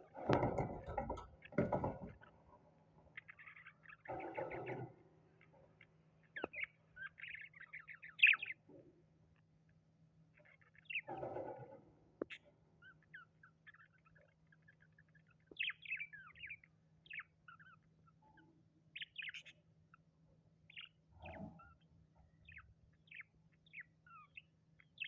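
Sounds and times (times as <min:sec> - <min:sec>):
birds chirping and twittering: 0:00.0 - 0:25.0.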